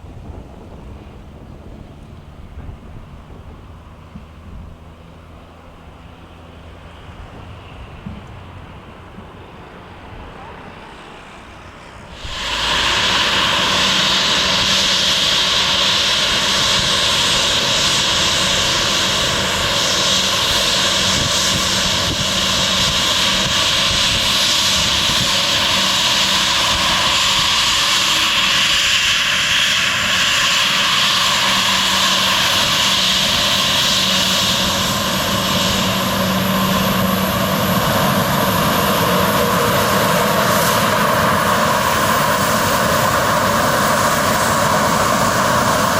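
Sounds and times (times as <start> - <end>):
airliner engines running: 0.0 - 45.9.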